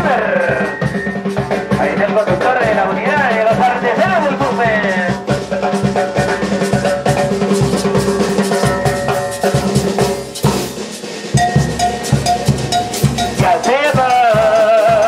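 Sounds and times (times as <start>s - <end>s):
bass drum beat: 0.0s - 15.0s
live dance band playing: 0.0s - 15.0s.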